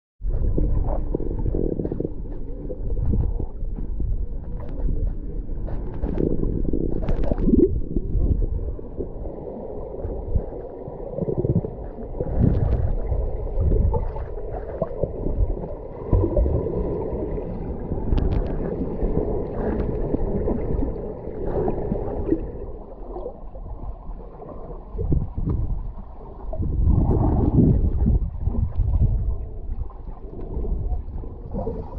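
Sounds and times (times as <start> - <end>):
muffled underwater water noise: 0.2 - 31.9
small underwater clicks and knocks: 0.3 - 8.6, 11.2 - 23.9, 24.9 - 31.9.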